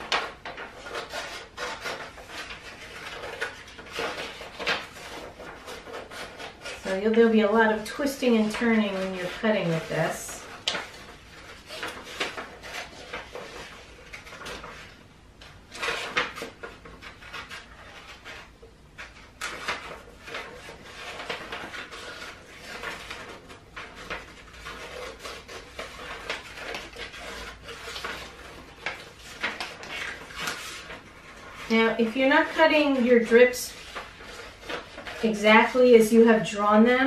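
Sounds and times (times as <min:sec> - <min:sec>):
scissors snipping paper: 0:00.0 - 0:14.9, 0:15.7 - 0:35.9
paper rustling: 0:00.0 - 0:37.0.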